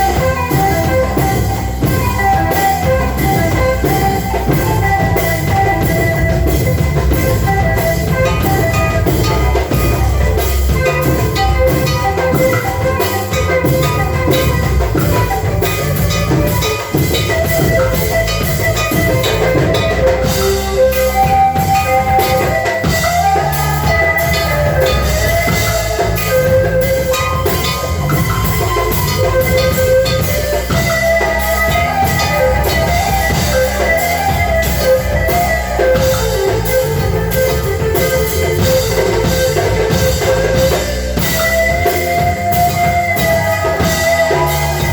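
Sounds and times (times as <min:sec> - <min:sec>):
drum kit playing: 0:00.0 - 0:44.9
guitar playing: 0:00.0 - 0:44.9.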